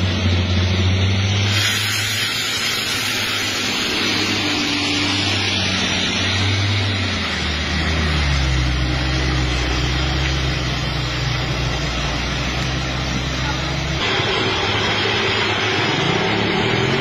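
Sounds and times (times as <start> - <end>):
bus diesel engine passing: 0.0 - 17.0.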